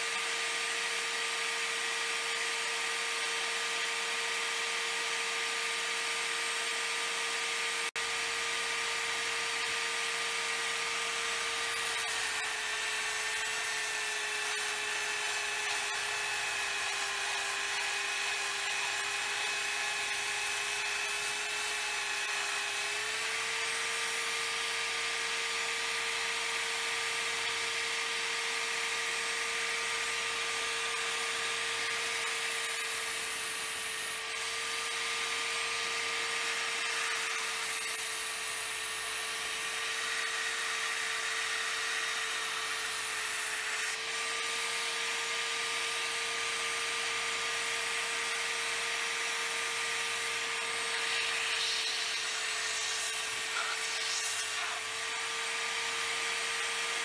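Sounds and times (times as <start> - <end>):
power tool whining: 0.0 - 57.0.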